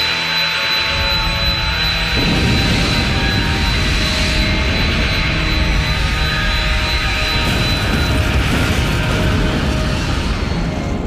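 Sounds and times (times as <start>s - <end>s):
jet engine roar: 0.0s - 11.0s
thin high whine: 0.0s - 11.0s.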